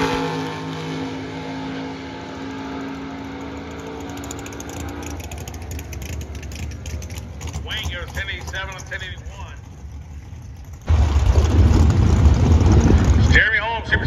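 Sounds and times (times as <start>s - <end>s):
drag car engine at full throttle: 0.0s - 14.0s
low rumble: 1.0s - 14.0s.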